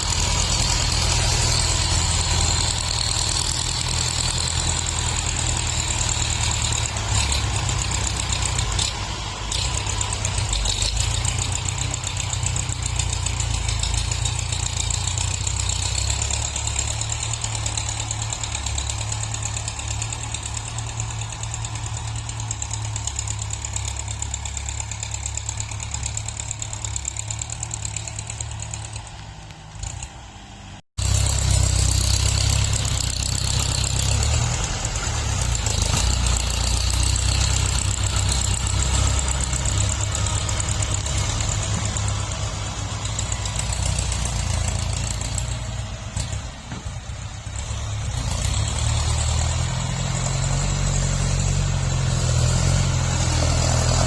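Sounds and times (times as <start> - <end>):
tractor engines rumbling: 0.0 - 54.0.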